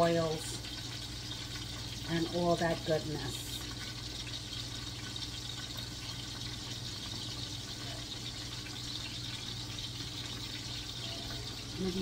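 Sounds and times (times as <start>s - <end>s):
sausages sizzling in a frying pan: 0.0s - 12.0s.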